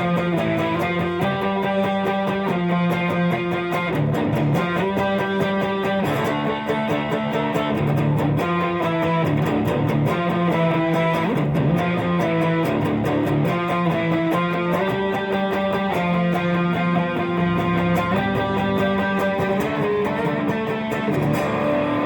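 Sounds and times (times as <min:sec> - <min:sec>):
electric guitar strumming chords: 0:00.0 - 0:22.0.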